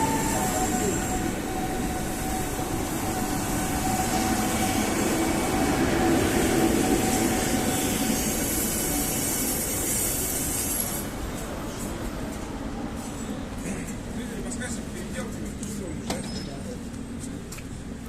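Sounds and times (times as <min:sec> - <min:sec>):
train rail rumble: 0:00.0 - 0:18.0.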